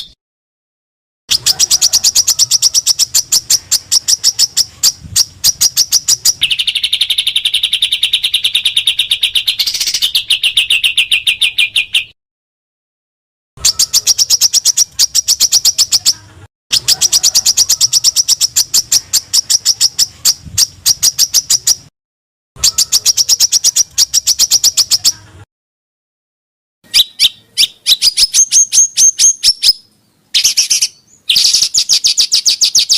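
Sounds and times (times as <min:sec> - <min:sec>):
buzzy bird trill: 0:01.3 - 0:12.2, 0:13.6 - 0:21.9, 0:22.6 - 0:25.4, 0:26.9 - 0:32.9.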